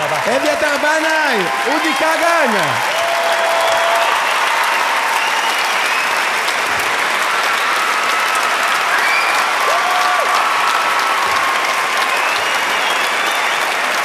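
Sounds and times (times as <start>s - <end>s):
audience applauding: 0.0s - 14.0s
cheers: 0.0s - 14.0s.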